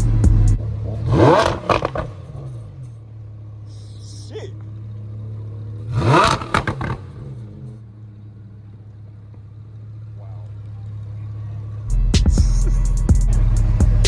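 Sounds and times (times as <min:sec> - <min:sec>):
car engine idling and revving: 0:00.0 - 0:14.0
exhaust cracks: 0:00.0 - 0:14.0.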